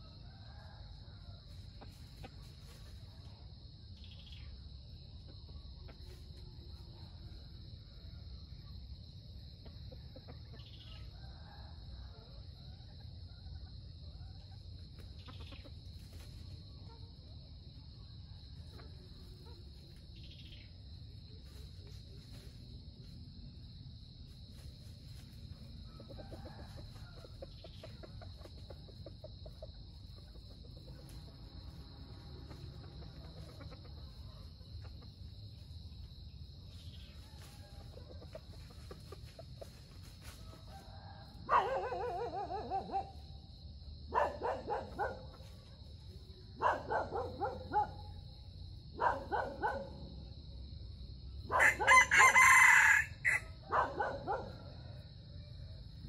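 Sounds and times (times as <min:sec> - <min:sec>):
junglefowl clucking and crowing: 0:00.0 - 0:03.6, 0:04.4 - 0:08.7, 0:09.3 - 0:17.6, 0:24.5 - 0:50.4, 0:51.4 - 0:56.0.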